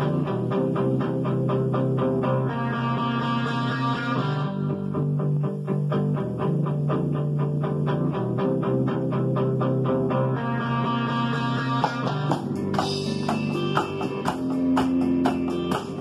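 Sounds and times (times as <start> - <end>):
rock music with guitars: 0.0 - 16.0.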